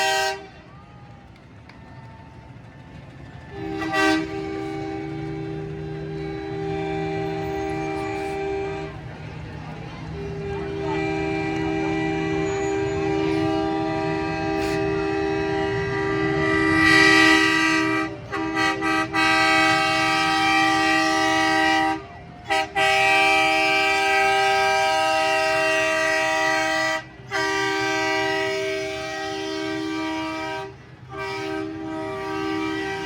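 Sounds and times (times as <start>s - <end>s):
train-style chord horn blasts: 0.0s - 1.9s, 2.6s - 33.0s
low engine rumble: 0.0s - 33.0s.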